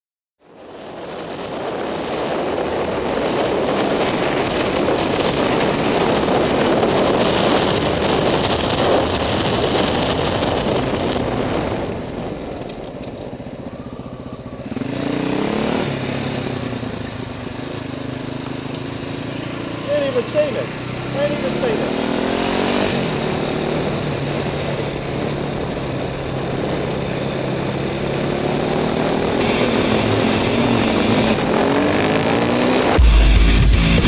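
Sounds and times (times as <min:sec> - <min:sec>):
wind rushing over microphone: 0:00.4 - 0:34.0
motorcycle engine: 0:00.5 - 0:34.0.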